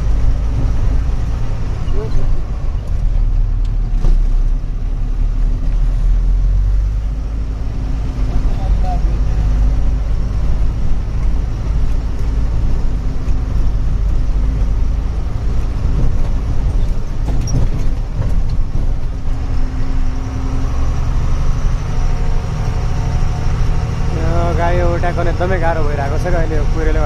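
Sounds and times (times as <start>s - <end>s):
road noise: 0.0s - 27.0s
truck engine rumble: 0.0s - 27.0s.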